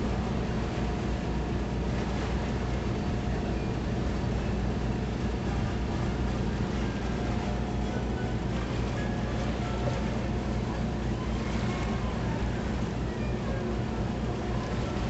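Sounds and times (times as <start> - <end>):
boat engine drone: 0.0 - 15.0.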